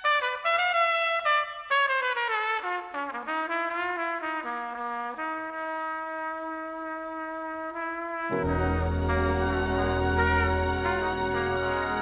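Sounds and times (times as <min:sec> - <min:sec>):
jazz orchestra with brass: 0:00.0 - 0:12.0.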